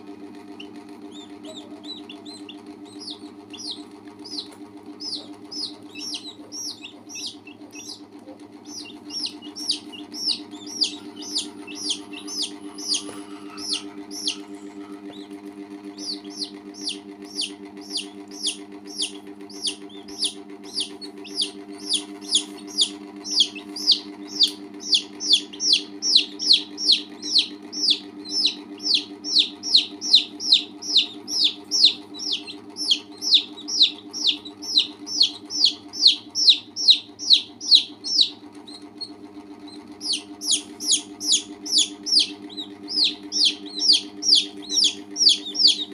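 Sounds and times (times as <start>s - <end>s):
chicks peeping: 0.0s - 45.9s
steady low hum: 0.0s - 45.9s.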